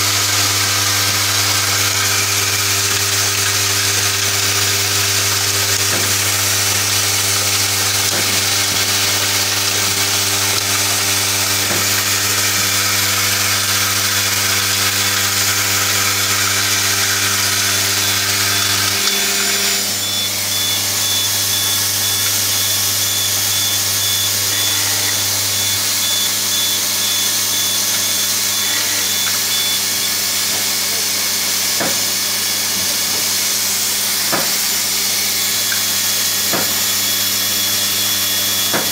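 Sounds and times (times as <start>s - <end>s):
assembly machine humming: 0.0s - 38.9s.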